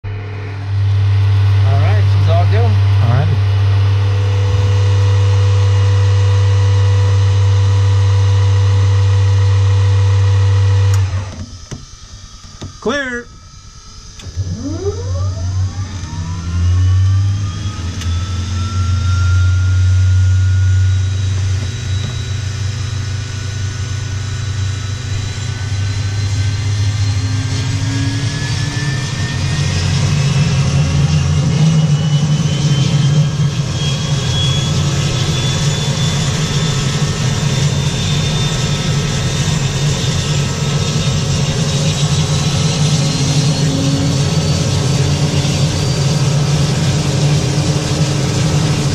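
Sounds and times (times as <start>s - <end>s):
high engine whine: 0.0s - 48.9s
turboprop engine droning: 0.0s - 48.9s.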